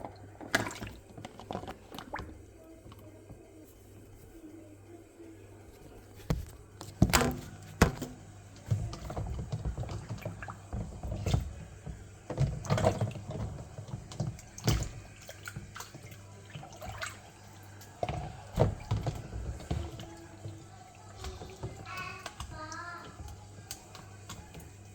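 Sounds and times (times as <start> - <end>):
water splashing and sloshing: 0.0 - 4.7, 5.7 - 24.9.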